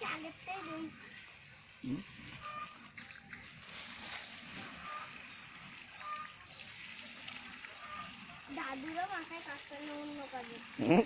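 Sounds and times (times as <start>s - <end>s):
hose water splashing on plants: 0.0s - 11.0s.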